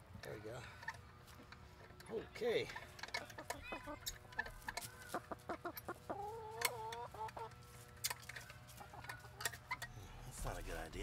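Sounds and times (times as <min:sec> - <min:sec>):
hens clucking: 0:00.3 - 0:10.6.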